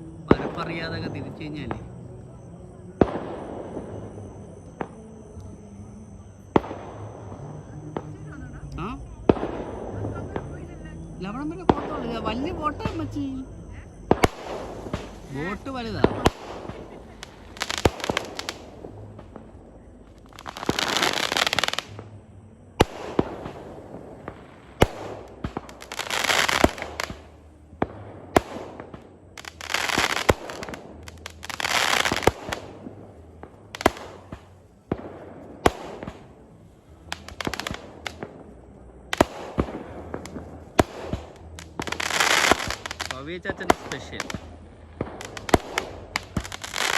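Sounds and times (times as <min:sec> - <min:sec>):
firework bangs: 0:00.0 - 0:46.9
crackling firework bursts: 0:03.0 - 0:22.2, 0:22.8 - 0:46.9.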